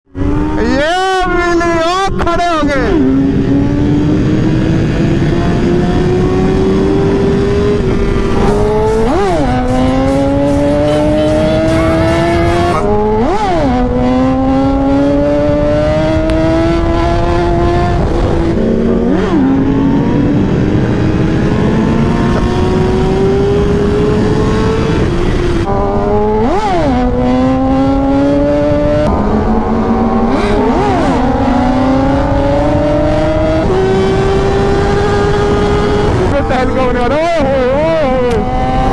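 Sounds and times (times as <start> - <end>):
motorcycle engine revving: 0.1 - 38.9.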